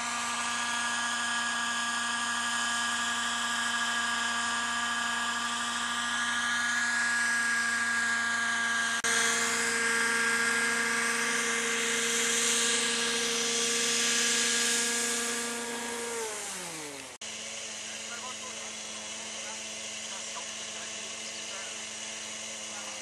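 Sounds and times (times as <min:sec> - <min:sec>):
model helicopter engine whine: 0:00.0 - 0:23.0.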